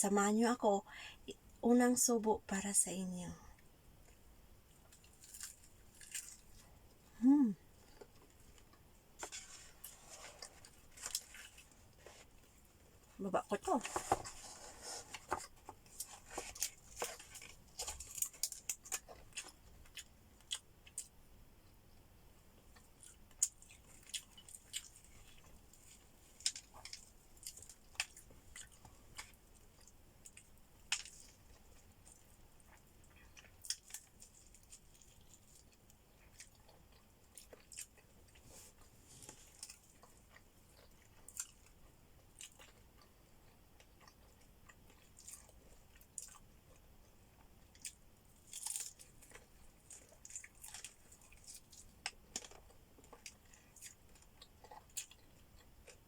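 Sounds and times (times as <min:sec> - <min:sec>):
chewing and crunching food: 0:03.4 - 0:56.0.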